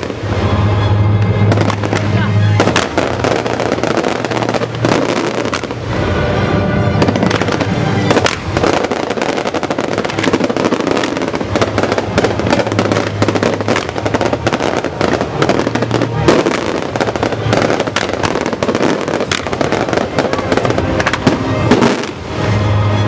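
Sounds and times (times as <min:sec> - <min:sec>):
fireworks crackling and banging: 0:00.0 - 0:23.0
music: 0:00.0 - 0:23.0.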